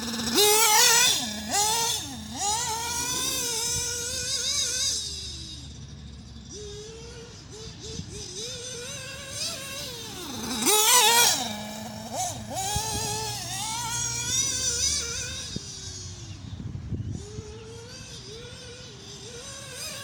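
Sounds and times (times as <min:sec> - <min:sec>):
rc buggy engine revving: 0:00.0 - 0:20.0.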